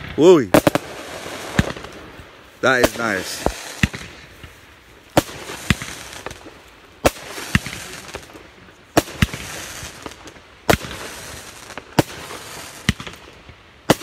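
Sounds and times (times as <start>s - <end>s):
firework hiss: 0.0s - 14.0s
firework shots: 0.0s - 14.0s.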